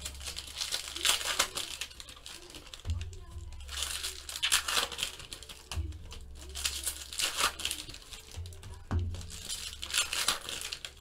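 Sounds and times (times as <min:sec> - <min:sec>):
cards rustling: 0:00.0 - 0:11.0
foil wrapper crinkling and tearing: 0:00.0 - 0:11.0.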